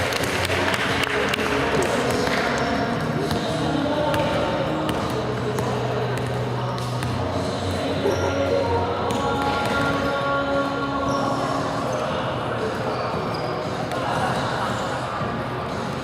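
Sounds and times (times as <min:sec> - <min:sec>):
murmur of voices in a gym: 0:00.0 - 0:16.0.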